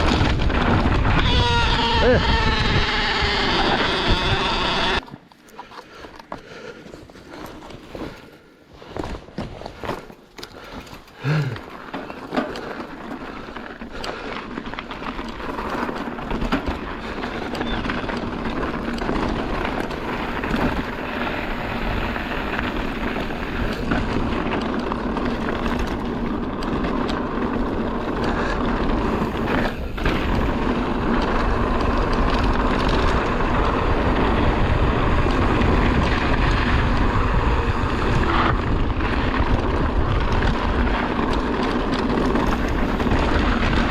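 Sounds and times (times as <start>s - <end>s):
tyre and wind rush: 0.0s - 5.0s, 12.7s - 43.9s
bike rattling over rough ground: 0.0s - 43.9s.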